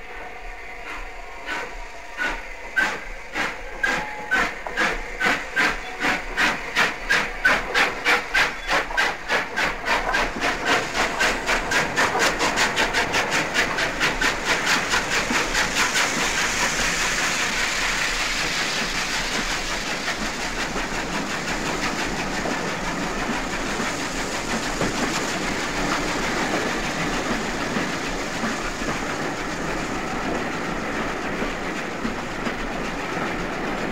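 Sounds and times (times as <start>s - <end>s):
steam locomotive exhaust beats: 0.0s - 33.9s.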